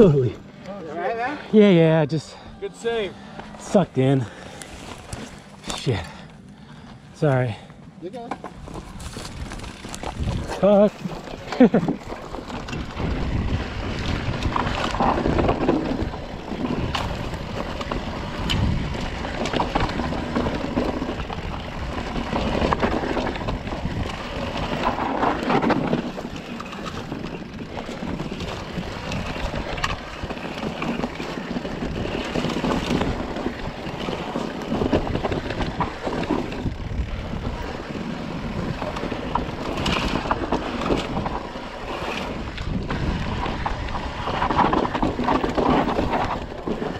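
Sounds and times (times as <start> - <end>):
bike tyre noise: 0.0 - 46.9
bike clicks and rattles: 3.3 - 46.9
wind buffeting microphone: 8.6 - 46.9.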